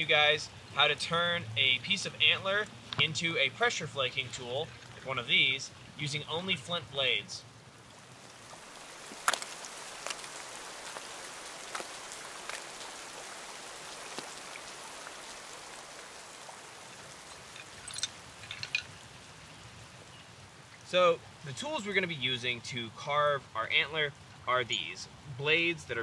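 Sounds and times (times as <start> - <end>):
rain on leaves and ground: 0.0 - 26.0.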